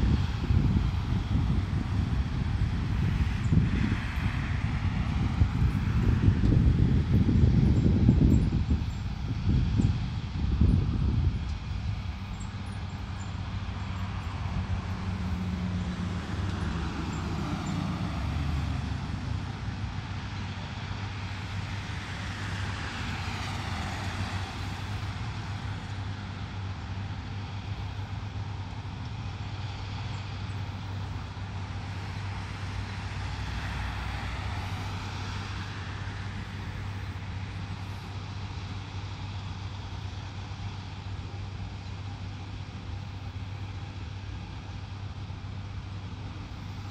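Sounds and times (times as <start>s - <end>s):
passing traffic: 0.0s - 46.9s
road noise: 0.0s - 46.9s
vehicle engine hum: 0.0s - 46.9s.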